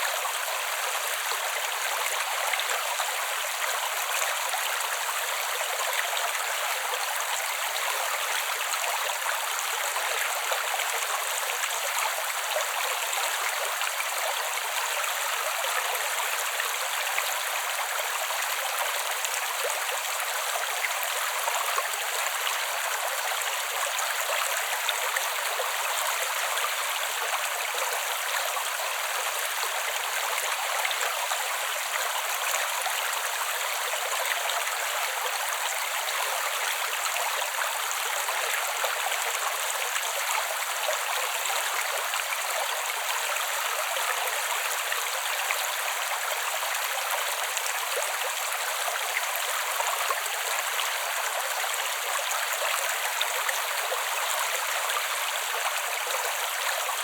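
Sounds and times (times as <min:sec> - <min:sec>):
creek water flowing over stones: 0:00.0 - 0:57.0.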